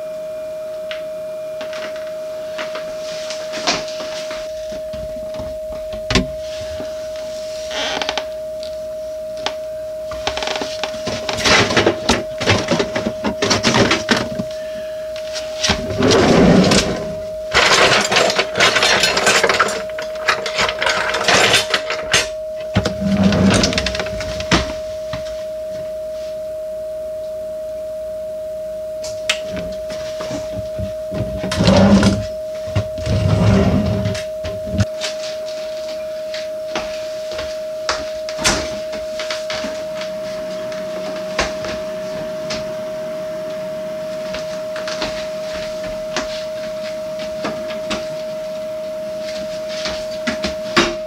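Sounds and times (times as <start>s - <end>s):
steady tone: 0.0s - 51.0s.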